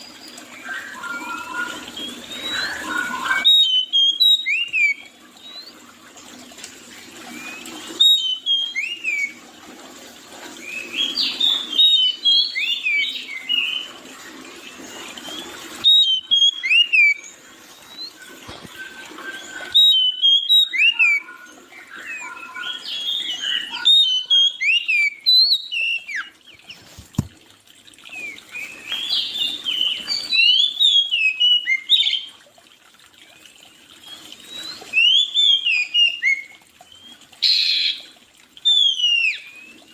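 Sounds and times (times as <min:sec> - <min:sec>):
songbirds chirping and whistling: 0:00.0 - 0:05.9, 0:07.3 - 0:09.4, 0:10.6 - 0:14.0, 0:14.6 - 0:27.3, 0:28.0 - 0:32.4, 0:33.9 - 0:39.9.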